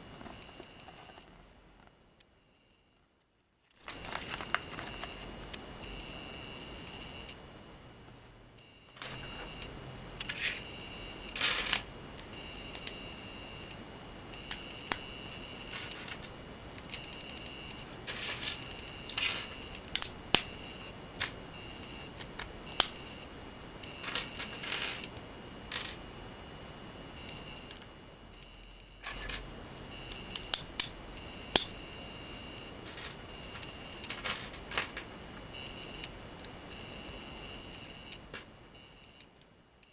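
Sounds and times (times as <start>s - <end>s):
faint electronic whine: 0.0s - 39.9s.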